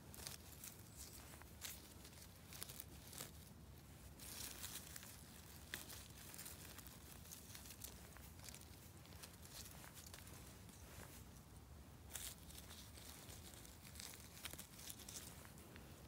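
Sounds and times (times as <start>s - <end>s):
moss and dry leaves rustling: 0.0s - 16.0s.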